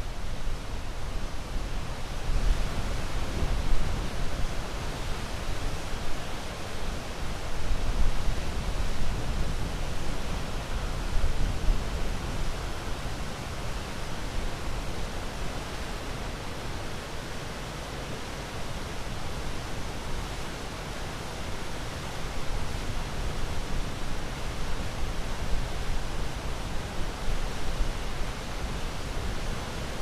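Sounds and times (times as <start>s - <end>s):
ocean waves with deep rumble: 0.0s - 30.0s.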